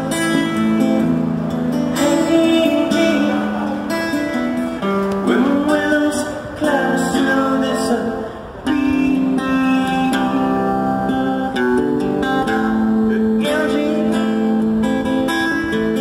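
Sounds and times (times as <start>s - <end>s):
strummed acoustic guitar: 0.0s - 16.0s
man singing: 1.9s - 16.0s.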